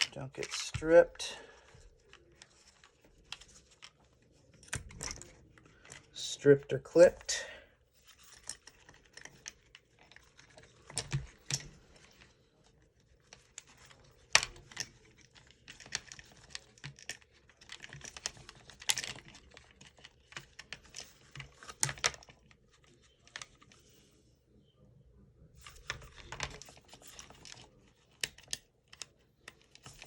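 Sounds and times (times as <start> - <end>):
plastic and metal parts clicking: 0.0 - 6.2, 8.0 - 23.8, 25.6 - 30.0.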